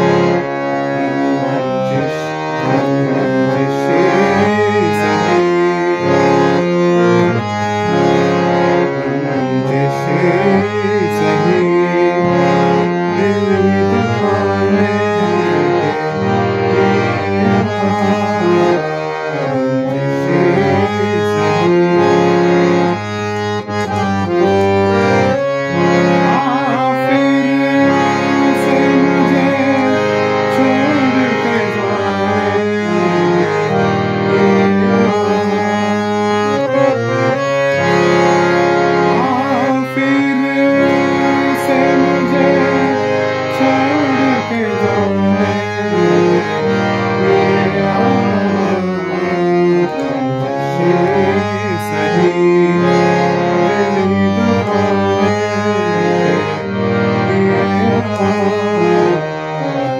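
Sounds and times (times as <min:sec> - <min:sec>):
harmonium melody: 0:00.0 - 0:59.9.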